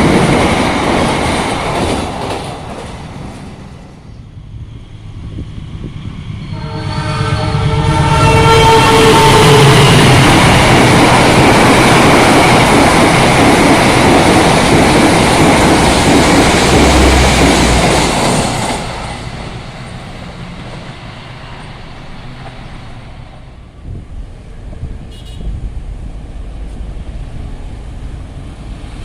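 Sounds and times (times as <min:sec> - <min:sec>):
train passing at speed: 0:00.0 - 0:29.0.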